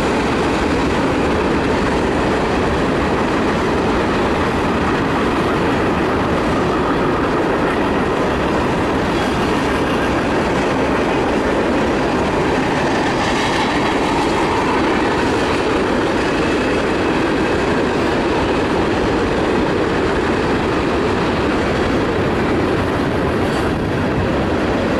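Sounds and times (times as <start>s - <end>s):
train wheels rolling on rails: 0.0s - 24.9s.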